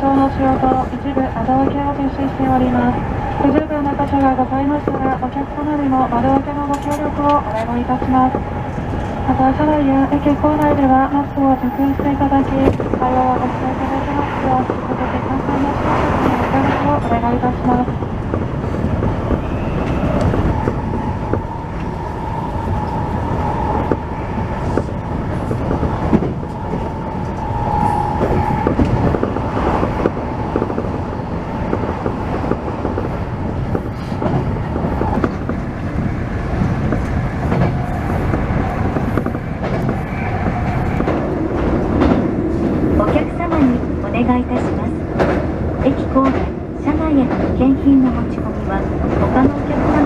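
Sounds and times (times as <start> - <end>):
train rumble with rail clatter: 0.0 - 50.0.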